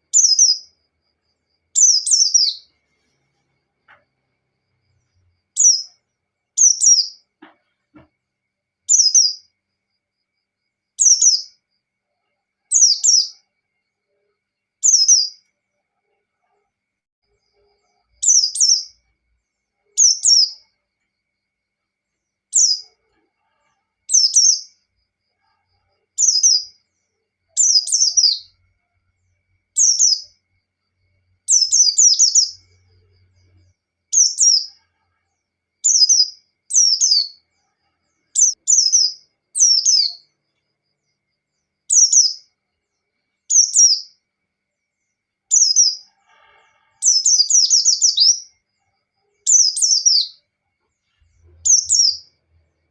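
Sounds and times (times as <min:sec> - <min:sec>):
bird chirping: 0:00.0 - 0:08.1, 0:08.8 - 0:09.6, 0:10.9 - 0:21.2, 0:22.1 - 0:46.2, 0:46.9 - 0:52.9.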